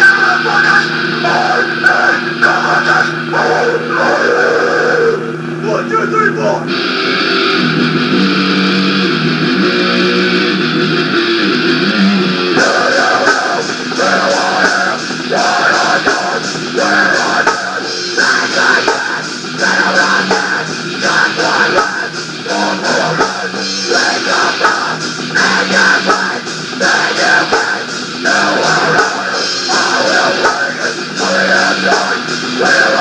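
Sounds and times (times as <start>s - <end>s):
electric guitar chords: 0.0s - 33.0s
rock band with drums: 0.0s - 33.0s.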